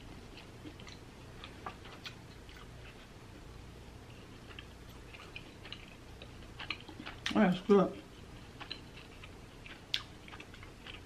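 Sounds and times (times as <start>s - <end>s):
soft wet chewing: 0.0s - 11.0s.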